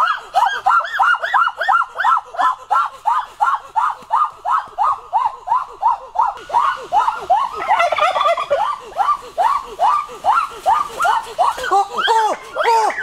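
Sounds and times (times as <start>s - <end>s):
turkeys calling: 0.0s - 13.0s.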